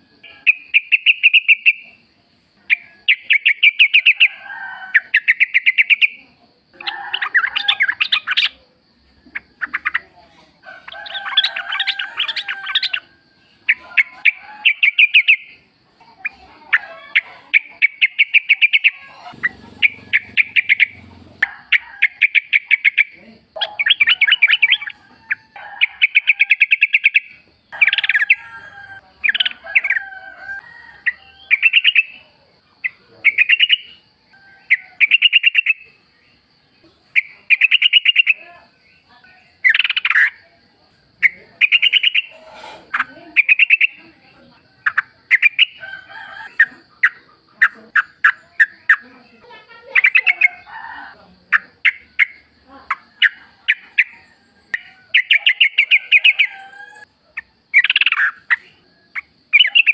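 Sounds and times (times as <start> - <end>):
bird singing chattering phrases: 0.2 - 2.0, 2.7 - 4.3, 5.0 - 8.6, 9.3 - 10.2, 10.9 - 25.0, 25.8 - 28.4, 31.1 - 32.2, 32.8 - 36.0, 36.8 - 40.5, 41.2 - 45.8, 46.5 - 50.7, 51.5 - 56.5, 57.4 - 59.9.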